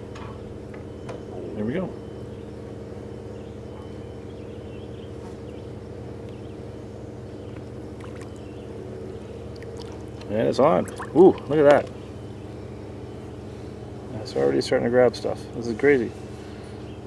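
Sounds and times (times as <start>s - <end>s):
pool pump motor humming: 0.0s - 17.0s.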